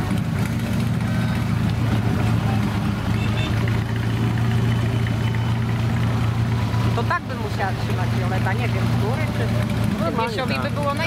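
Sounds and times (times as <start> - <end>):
motorcycle engines at low revs: 0.0 - 11.0.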